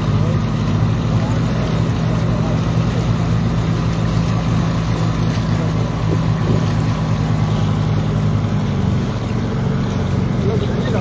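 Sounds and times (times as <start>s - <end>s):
boat engine drone: 0.0s - 11.0s
rushing water: 0.0s - 11.0s
wind: 0.0s - 11.0s.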